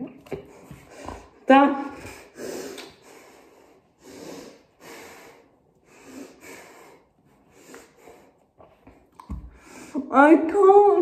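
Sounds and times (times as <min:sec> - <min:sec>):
woman breathing heavily: 0:00.3 - 0:10.1.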